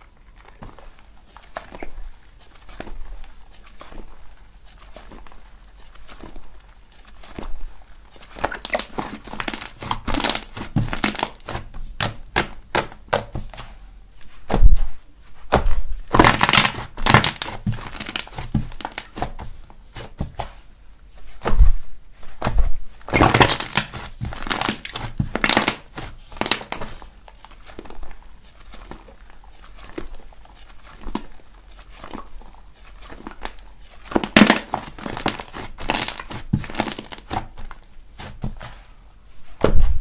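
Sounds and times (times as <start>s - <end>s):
slime crackling and popping: 0.0s - 13.4s, 15.6s - 20.1s, 22.5s - 38.4s.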